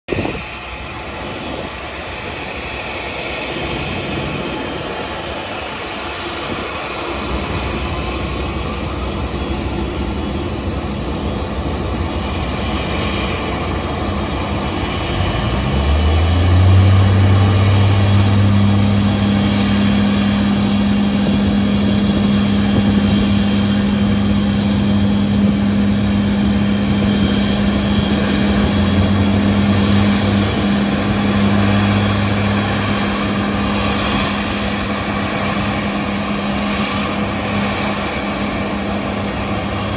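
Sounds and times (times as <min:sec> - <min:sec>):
jet engines running: 0:00.1 - 0:39.9
deep steady drone: 0:00.5 - 0:39.9.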